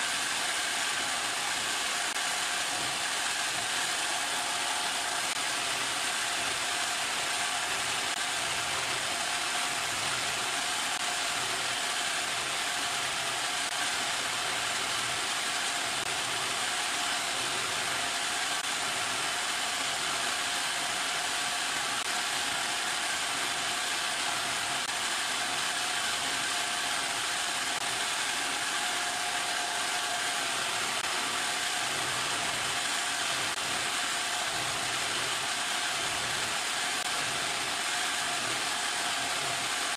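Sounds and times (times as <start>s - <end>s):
electric grater motor whirring: 0.0s - 39.9s.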